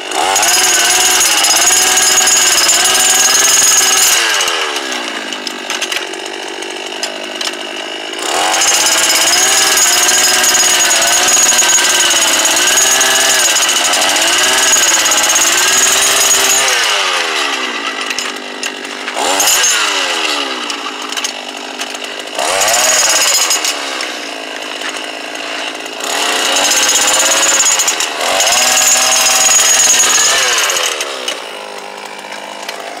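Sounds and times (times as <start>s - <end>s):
jackhammer bit hammering rock: 0.0s - 33.0s
jackhammer engine revving: 0.0s - 33.0s.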